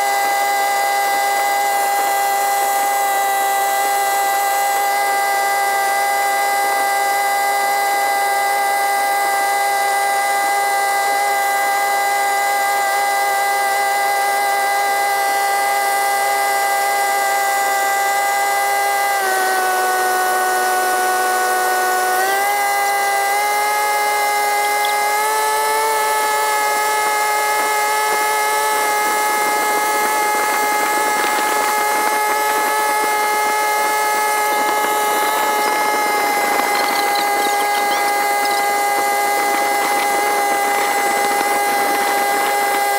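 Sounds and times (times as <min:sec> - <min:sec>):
boat engine high whine: 0:00.0 - 0:42.9.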